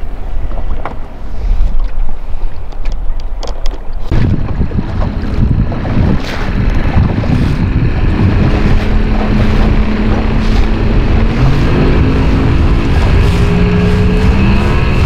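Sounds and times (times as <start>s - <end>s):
boat motor hum: 0.0s - 15.0s
wind buffeting microphone: 0.0s - 15.0s.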